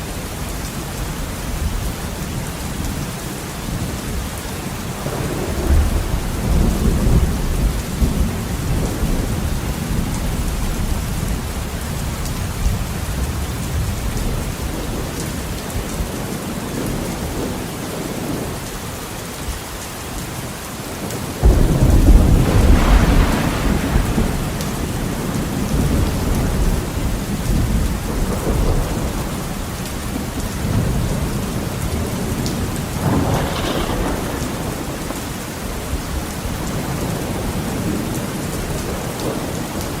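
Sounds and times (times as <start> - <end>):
heavy rain on a window: 0.0 - 40.0
rolling thunder: 4.9 - 18.5, 21.0 - 40.0.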